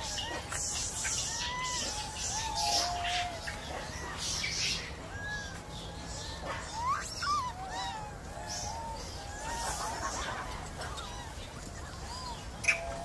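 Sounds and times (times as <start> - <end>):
macaques coo calls: 0.0 - 13.0.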